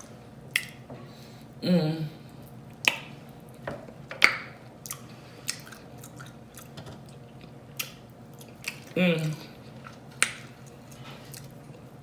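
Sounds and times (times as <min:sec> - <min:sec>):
chewing with wet smacks: 0:00.0 - 0:00.8, 0:02.4 - 0:03.6, 0:04.2 - 0:12.0.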